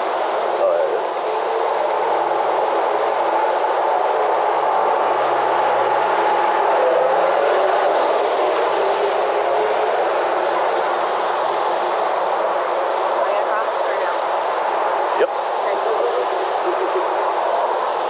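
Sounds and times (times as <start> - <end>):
cars passing on wet road: 0.0 - 18.0.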